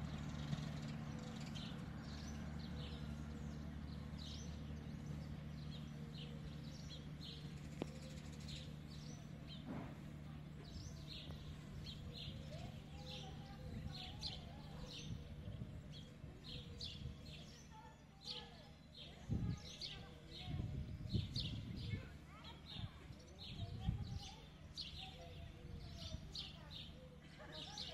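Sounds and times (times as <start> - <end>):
diesel railcar engine drone: 0.0 - 27.2
small birds chirping: 0.0 - 27.9.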